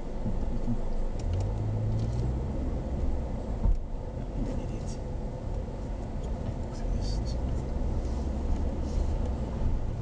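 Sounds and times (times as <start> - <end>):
engine and road hum: 0.0 - 10.0.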